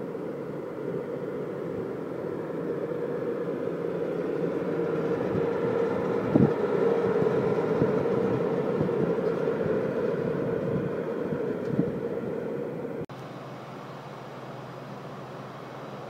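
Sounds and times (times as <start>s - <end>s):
passenger train rumbling past: 0.0s - 16.0s.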